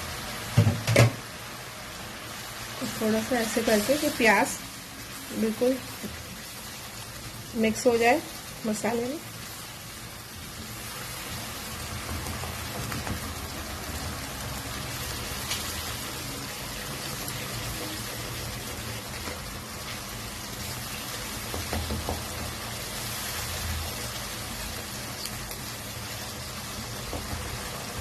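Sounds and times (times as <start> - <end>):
masala sizzling in a pan: 0.0 - 28.0.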